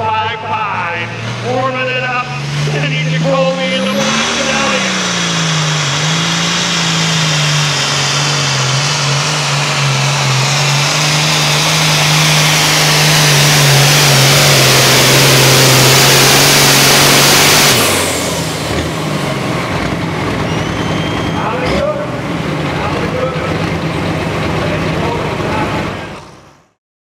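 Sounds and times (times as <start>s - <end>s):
high whine: 0.0s - 26.6s
tractor engine under load: 0.0s - 26.8s.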